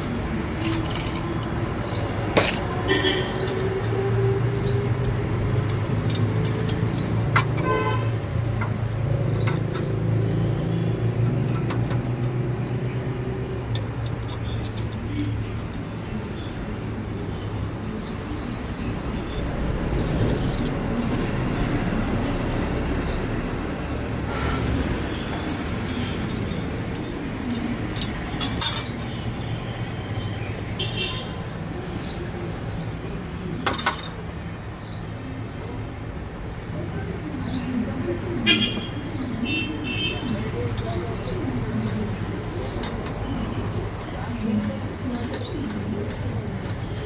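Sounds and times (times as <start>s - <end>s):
road traffic drone: 0.0s - 47.0s.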